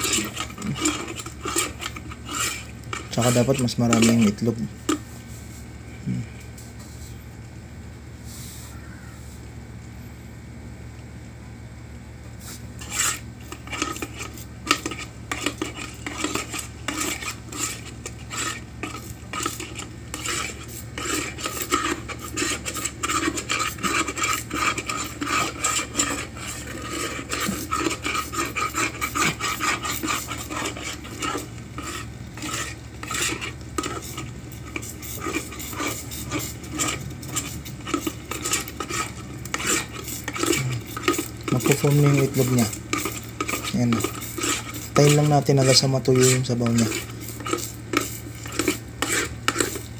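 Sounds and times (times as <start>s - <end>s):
wooden spatula scraping pot: 0.0s - 5.7s, 12.8s - 49.9s.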